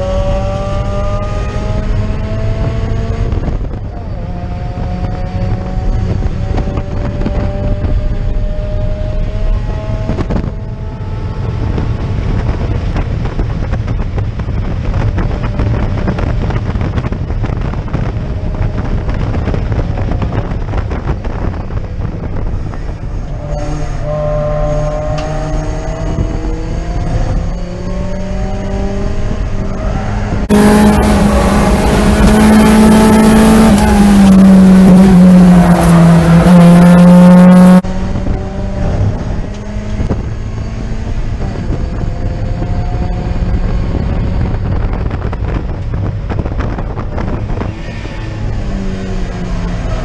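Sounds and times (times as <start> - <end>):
car engine accelerating hard: 0.0 - 50.0
road and wind noise: 0.0 - 50.0.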